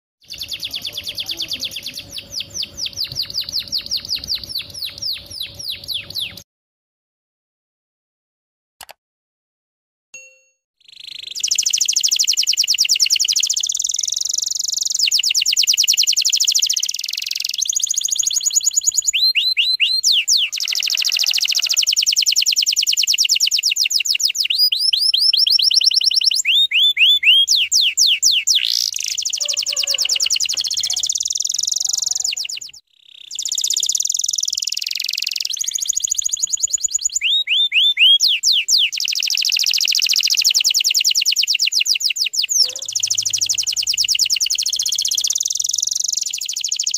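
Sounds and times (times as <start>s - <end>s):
canary singing trills: 0.2s - 6.4s, 10.8s - 46.9s.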